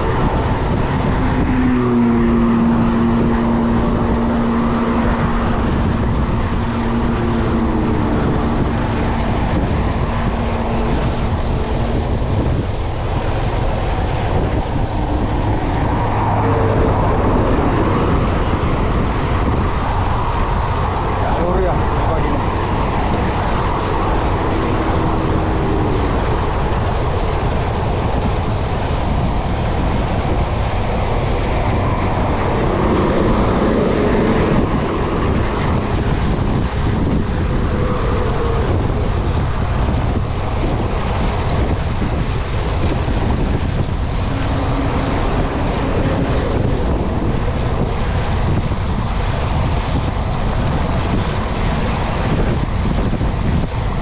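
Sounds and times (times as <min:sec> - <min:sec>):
highway traffic hum: 0:00.0 - 0:54.0
wind rushing over microphone: 0:00.0 - 0:54.0.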